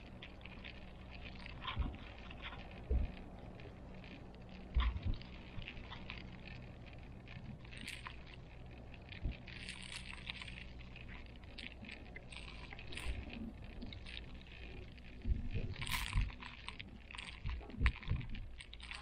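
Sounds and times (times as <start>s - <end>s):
light clicks and rattles: 0.0s - 19.0s.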